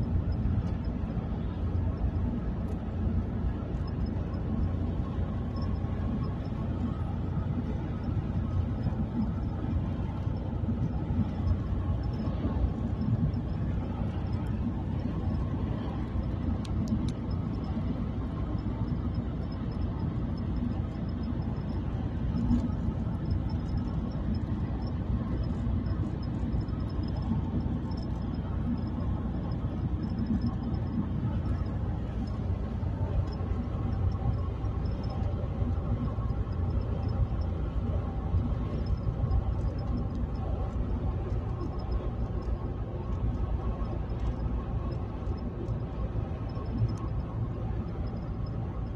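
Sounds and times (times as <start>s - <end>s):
car interior road rumble: 0.0s - 48.9s.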